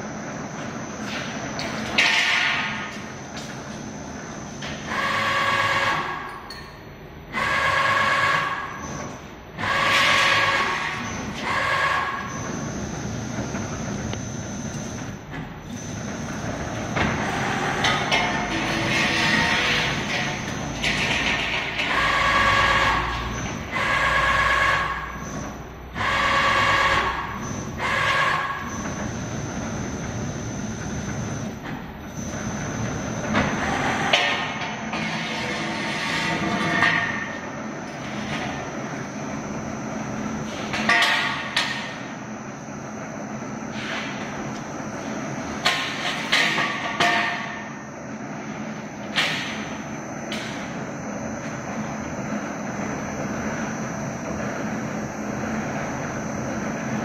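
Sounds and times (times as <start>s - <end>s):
pipe bending machine whining: 0.0s - 57.0s.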